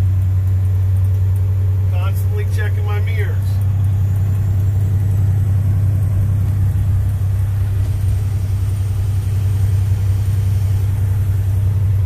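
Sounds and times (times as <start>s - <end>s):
truck diesel engine drone: 0.0s - 12.0s.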